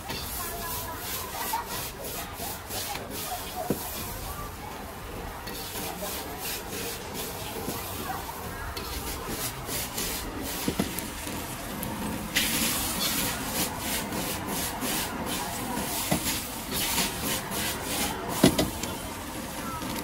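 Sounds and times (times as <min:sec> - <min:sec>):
food sizzling in a wok: 0:00.0 - 0:20.0
metal utensils scraping a wok: 0:00.0 - 0:20.0.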